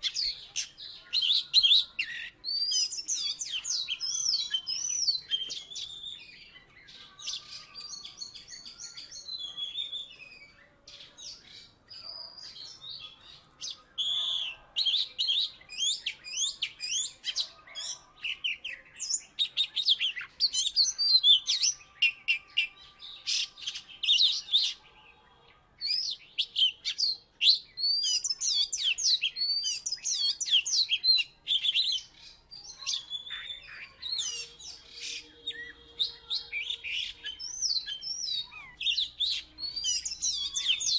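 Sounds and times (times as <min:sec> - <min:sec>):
magpie-robin singing: 0:00.0 - 0:40.9.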